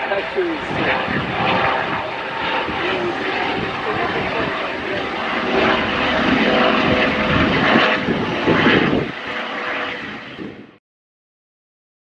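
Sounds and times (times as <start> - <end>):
helicopter flying past: 0.0 - 10.8.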